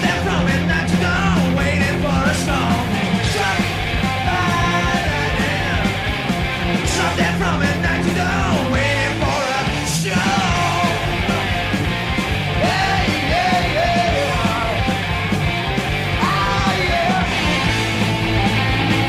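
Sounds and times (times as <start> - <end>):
person singing and shouting: 0.0 - 6.1, 6.8 - 11.8, 12.5 - 15.0, 16.1 - 18.0
rock song with full band: 0.0 - 19.0.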